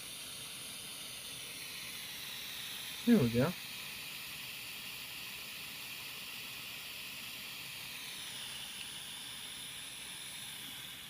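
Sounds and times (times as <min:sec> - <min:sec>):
butane soldering iron hissing: 0:00.0 - 0:11.0.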